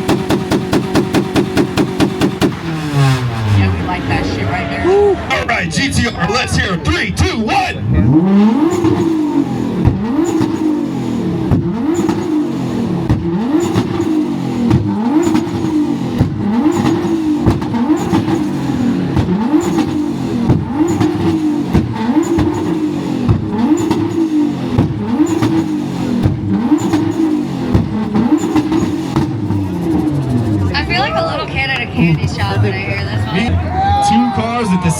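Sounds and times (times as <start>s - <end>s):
exhaust pops: 0.0s - 4.5s, 5.2s - 33.5s
car engine revving: 0.0s - 33.9s.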